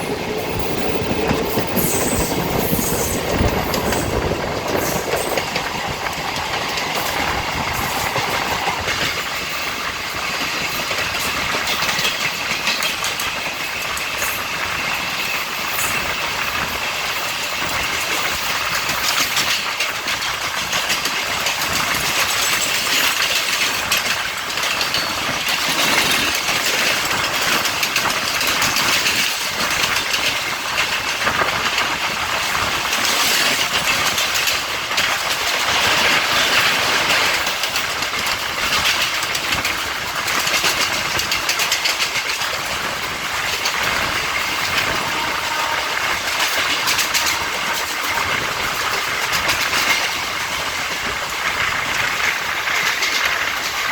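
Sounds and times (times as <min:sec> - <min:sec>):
train wheels on track: 0:00.0 - 0:53.9.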